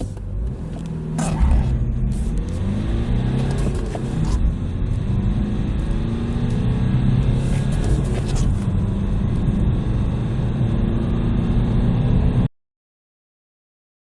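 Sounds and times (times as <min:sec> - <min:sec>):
diesel car engine accelerating: 0:00.0 - 0:12.5.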